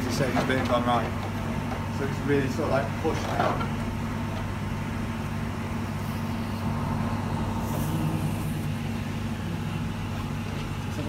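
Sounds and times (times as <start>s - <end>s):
pump low hum: 0.0s - 11.0s.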